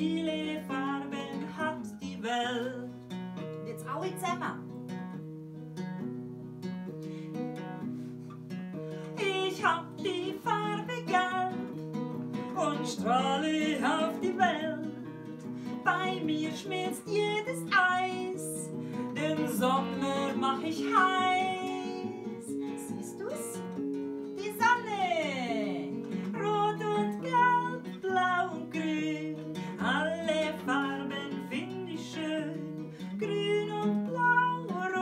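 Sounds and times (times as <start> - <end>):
woman singing: 0.0 - 4.7, 9.0 - 35.0
acoustic guitar strumming: 0.0 - 35.0.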